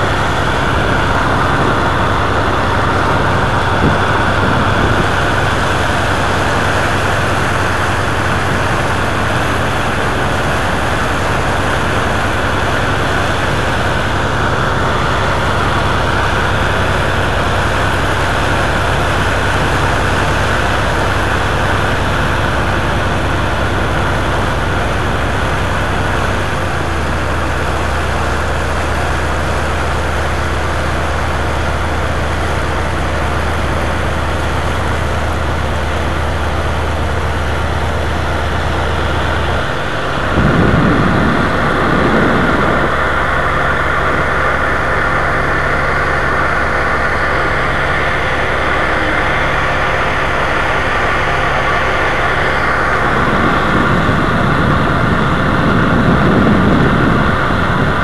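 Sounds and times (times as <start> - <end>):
boat diesel engine droning: 0.0 - 58.0.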